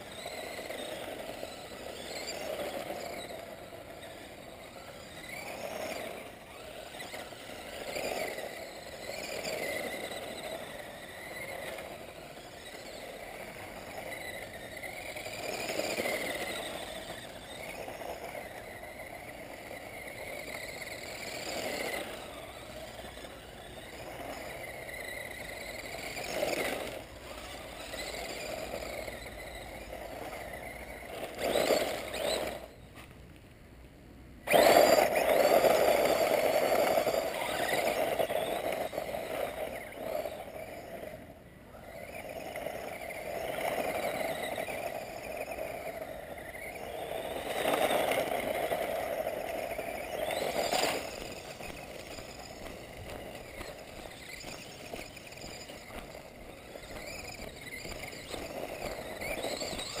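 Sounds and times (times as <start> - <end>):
rc truck motor whining: 0.0 - 33.5, 34.2 - 60.0
tyres on gravel: 0.0 - 33.6, 34.4 - 60.0.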